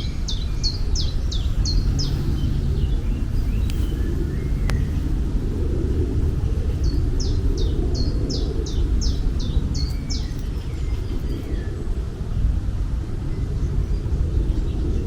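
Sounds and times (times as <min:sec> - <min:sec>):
loud steady low rumble: 0:00.0 - 0:15.0.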